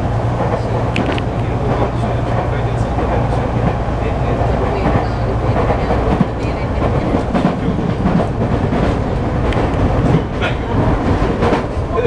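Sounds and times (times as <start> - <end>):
wheel and rail rumble: 0.0 - 12.0.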